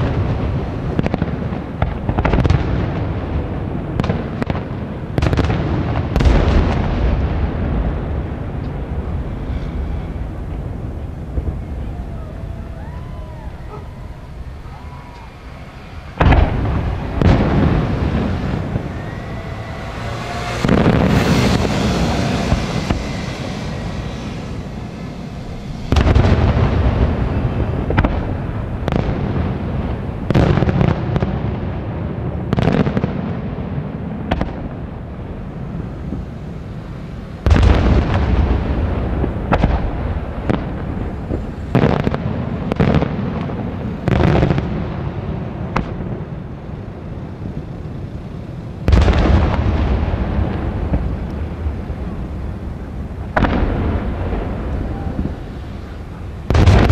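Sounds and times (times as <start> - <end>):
firework booms with rumbling echo: 0.0 - 56.9.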